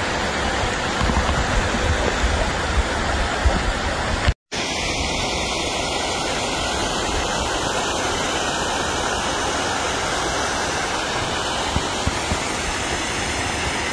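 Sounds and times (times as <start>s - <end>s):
waterfall rushing: 0.0s - 13.9s.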